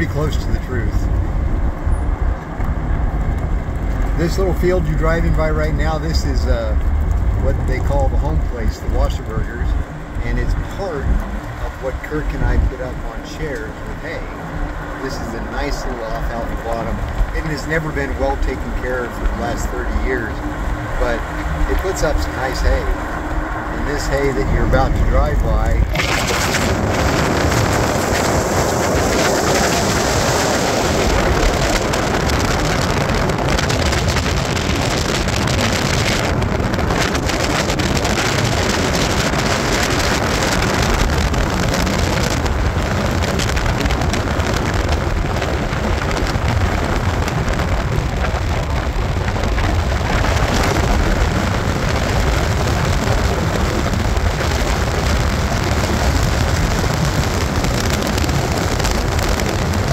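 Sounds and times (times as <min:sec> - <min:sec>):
tyres on gravel road: 0:00.0 - 0:59.9
wind noise: 0:00.0 - 0:59.9.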